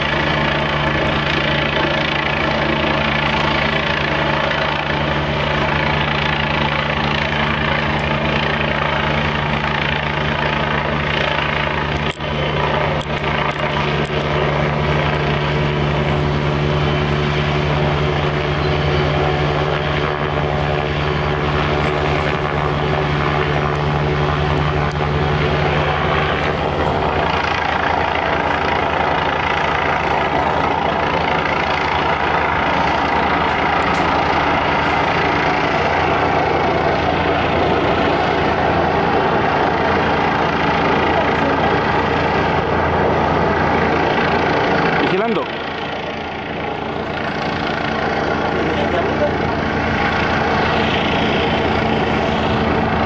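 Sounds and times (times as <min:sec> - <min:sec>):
helicopter flying low overhead: 0:00.0 - 0:53.0.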